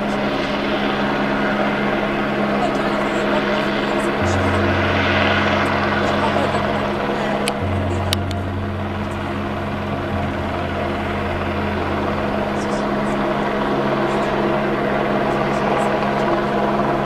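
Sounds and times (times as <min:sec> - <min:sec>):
helicopter rotor and turbine drone: 0:00.0 - 0:17.0.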